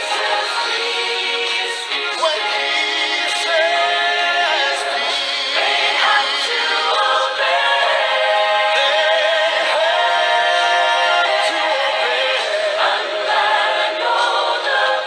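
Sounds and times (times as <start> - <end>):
song with harmonized voices: 0.0 - 15.0.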